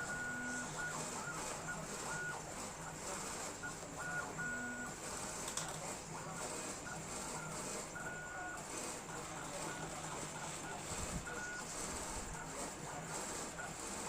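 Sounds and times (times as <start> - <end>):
laser cutter motors whining: 0.0 - 14.0
steady background hum: 0.0 - 14.0.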